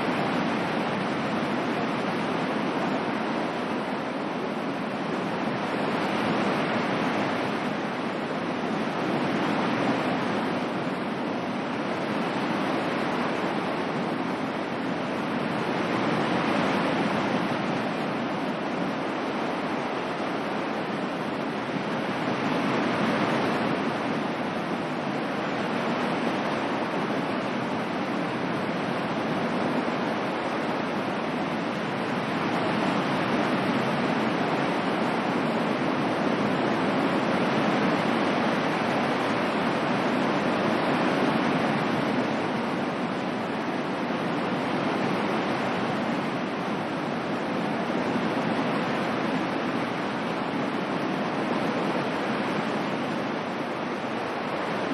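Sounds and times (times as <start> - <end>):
ocean waves washing on shore: 0.0 - 54.9.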